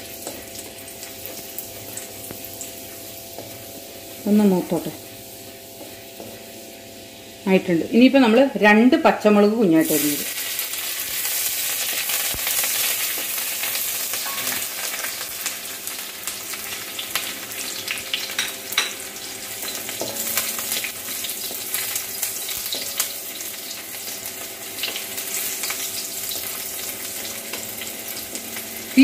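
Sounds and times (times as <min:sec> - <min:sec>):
garlic sizzling in hot oil: 0:00.0 - 0:29.0.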